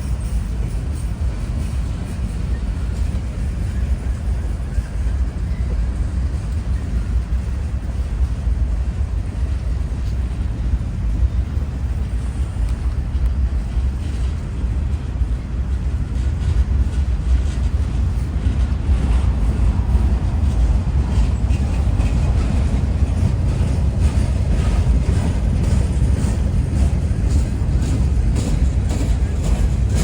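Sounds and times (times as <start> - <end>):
freight train rumbling past: 0.0 - 30.0
wheels clicking over rails: 0.2 - 30.0.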